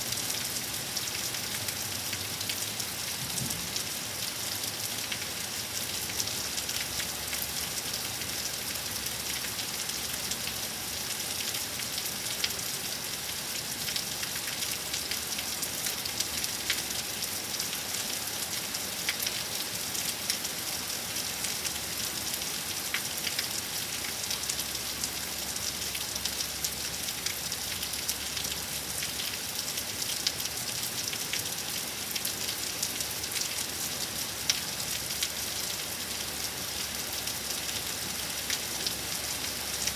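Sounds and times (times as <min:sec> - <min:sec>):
raindrops ticking on a surface: 0:00.1 - 0:39.9.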